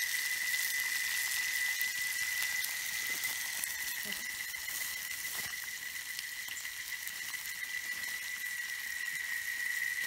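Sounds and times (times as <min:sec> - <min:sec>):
hiss: 0:00.0 - 0:10.0
insects droning: 0:00.0 - 0:10.0.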